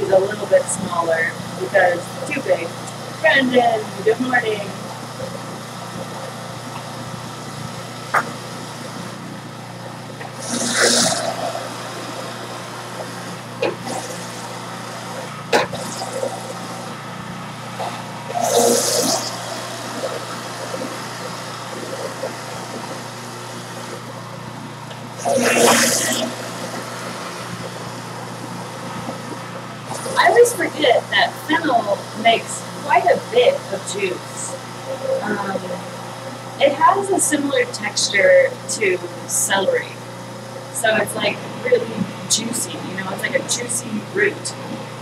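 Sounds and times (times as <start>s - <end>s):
juicer motor hum: 0.0s - 45.0s.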